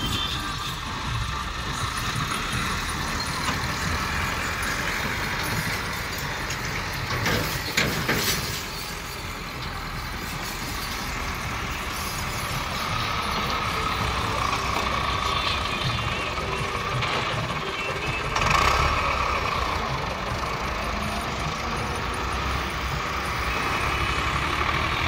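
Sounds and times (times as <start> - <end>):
excavator diesel engines: 0.0 - 25.0
tractor driving: 0.0 - 25.0.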